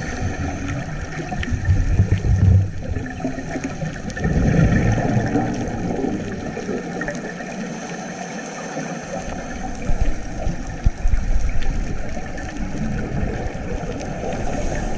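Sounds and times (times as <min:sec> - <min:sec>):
water noise: 0:00.0 - 0:14.9.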